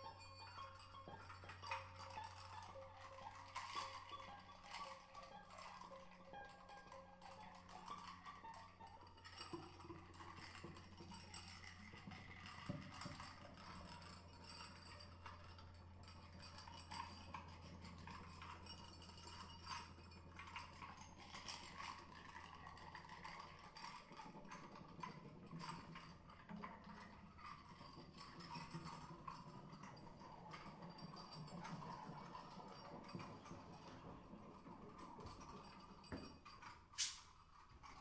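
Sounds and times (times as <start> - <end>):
small clicks taps and rattles: 0.0 - 38.0.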